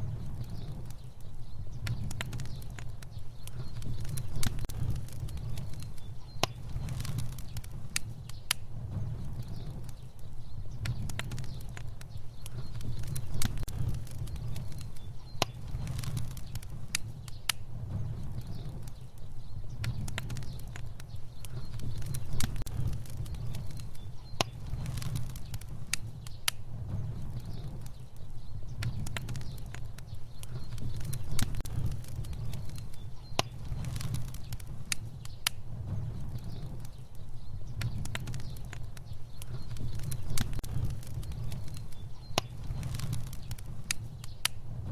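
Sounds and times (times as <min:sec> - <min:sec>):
fire crackling and popping: 0:00.0 - 0:44.9
low rumble of flame: 0:00.0 - 0:44.9.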